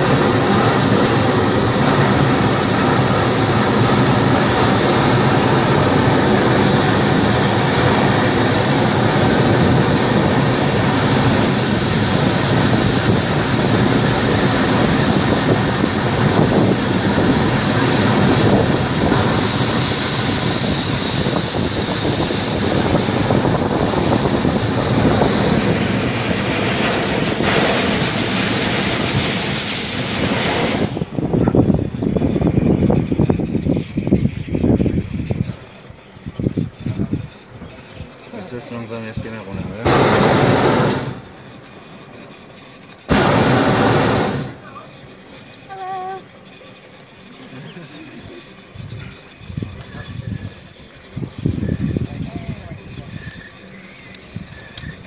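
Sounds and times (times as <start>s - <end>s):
propane burner hissing: 0.0s - 55.0s.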